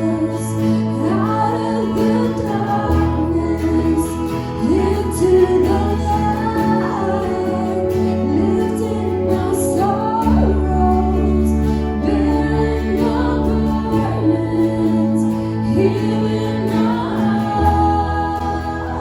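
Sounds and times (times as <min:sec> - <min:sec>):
person singing worship song: 0:00.0 - 0:19.0
steady bass line: 0:00.0 - 0:19.0
sustained keyboard chords: 0:00.0 - 0:19.0.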